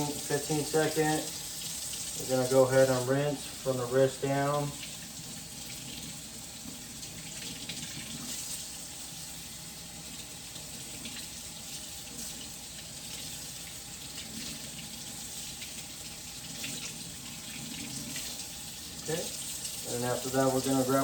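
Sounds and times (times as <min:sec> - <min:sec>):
tap water running into sink: 0:00.0 - 0:21.0.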